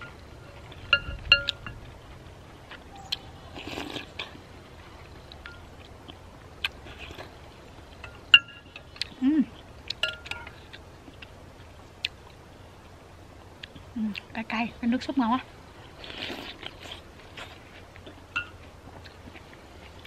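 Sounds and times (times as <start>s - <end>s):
chewing: 0.0s - 12.4s, 15.8s - 20.0s.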